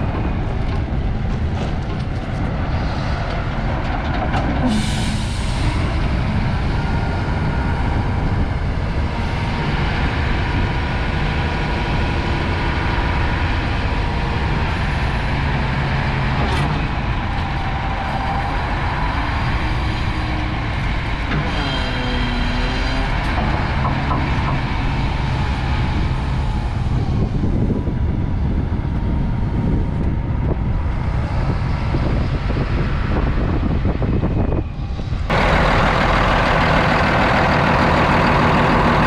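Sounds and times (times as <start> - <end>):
wheel loader diesel engine: 0.0 - 39.0.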